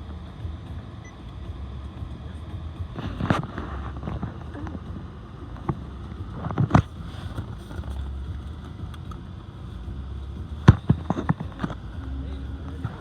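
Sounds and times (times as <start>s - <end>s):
road rumble inside car: 0.0s - 13.0s.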